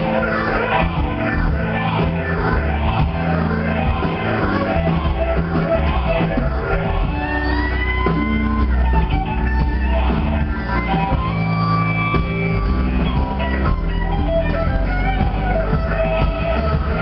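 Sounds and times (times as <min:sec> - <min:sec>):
bass guitar: 0:00.0 - 0:17.0
drums: 0:00.0 - 0:17.0
electric guitar bending notes: 0:00.0 - 0:17.0.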